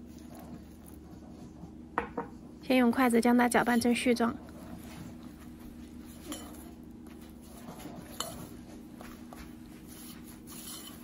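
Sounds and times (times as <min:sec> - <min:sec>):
chopsticks stirring dough in bowl: 0:00.0 - 0:11.0.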